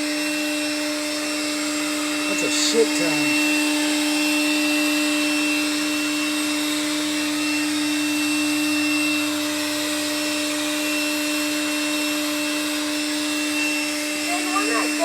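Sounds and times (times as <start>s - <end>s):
vacuum motor humming: 0.0s - 15.0s.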